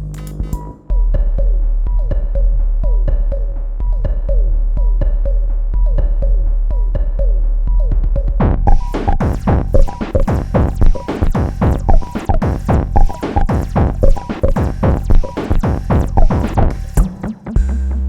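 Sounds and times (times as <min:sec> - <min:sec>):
deep steady bass: 0:00.0 - 0:18.0
drum machine beat: 0:00.0 - 0:18.0.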